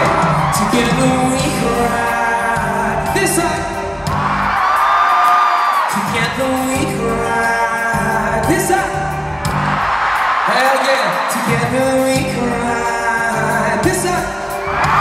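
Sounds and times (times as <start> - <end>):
lead singer: 0.0 - 15.0
live pop-rock band: 0.0 - 15.0.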